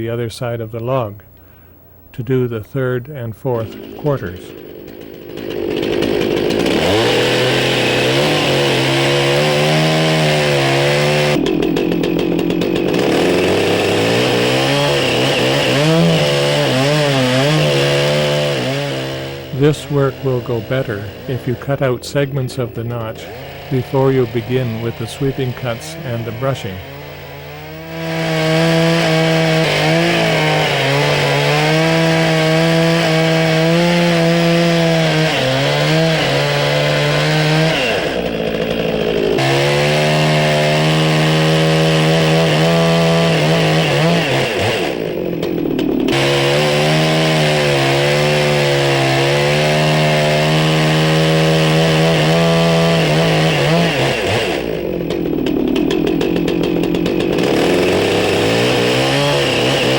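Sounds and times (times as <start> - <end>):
chainsaw cutting log: 3.2 - 59.9.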